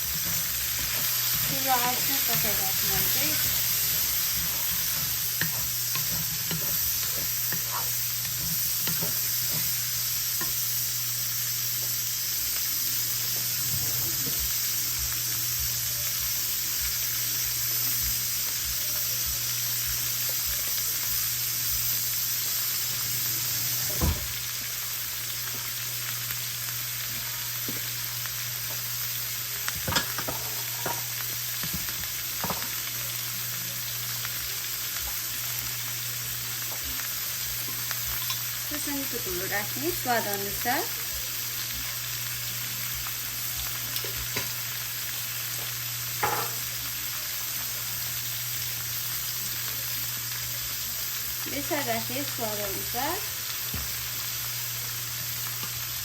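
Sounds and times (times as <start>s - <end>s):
vegetables sizzling in a pan: 0.0s - 56.0s.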